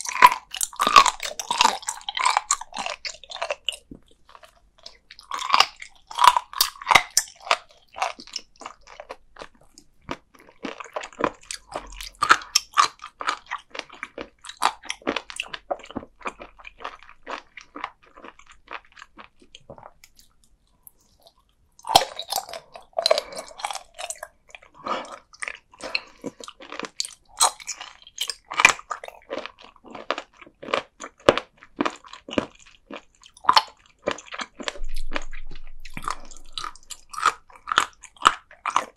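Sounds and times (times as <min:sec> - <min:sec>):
crisp crunching chewing: 0:00.0 - 0:38.9.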